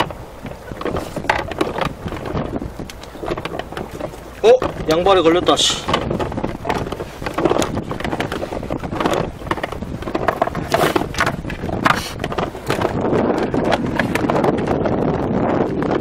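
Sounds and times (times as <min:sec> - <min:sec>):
fishing rod knocks and rustles: 0:00.0 - 0:14.7
wind buffeting microphone: 0:00.0 - 0:16.0.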